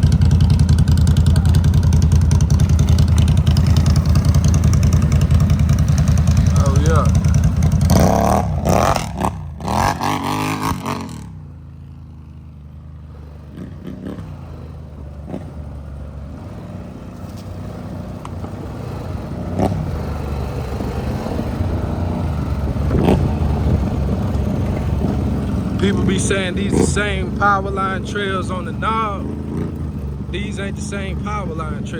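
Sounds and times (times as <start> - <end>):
engine clattering and rattling: 0.0 - 31.9
low engine note: 0.0 - 31.9.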